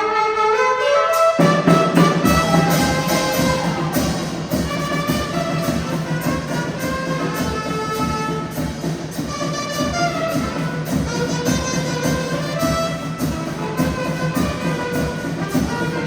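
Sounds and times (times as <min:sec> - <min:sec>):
instrumental ensemble music: 0:00.0 - 0:16.0.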